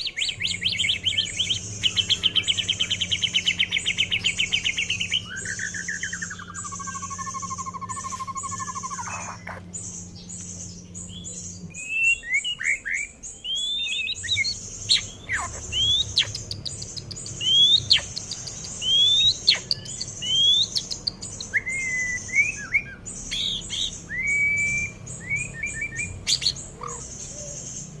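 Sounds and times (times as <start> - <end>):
bird singing trills and whistles: 0.0 - 28.0
low hum: 0.0 - 28.0.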